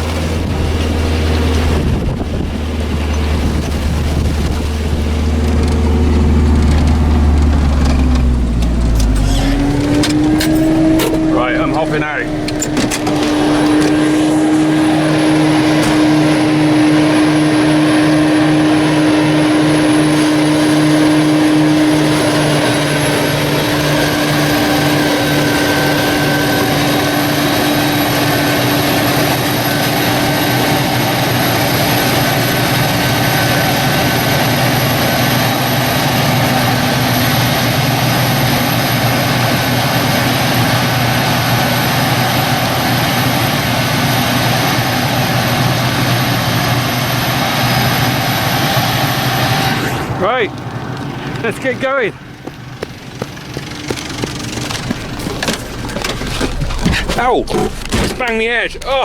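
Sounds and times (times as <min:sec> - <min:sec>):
forage harvester drone with whine: 0:00.0 - 0:59.0.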